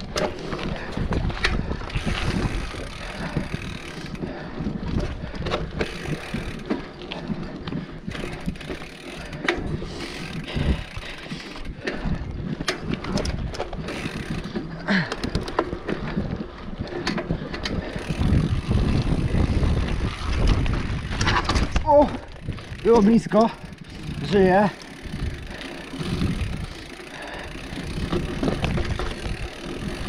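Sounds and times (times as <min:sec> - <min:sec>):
bike frame and chain rattling: 0:00.0 - 0:30.0
bike tyres on dirt: 0:00.0 - 0:30.0.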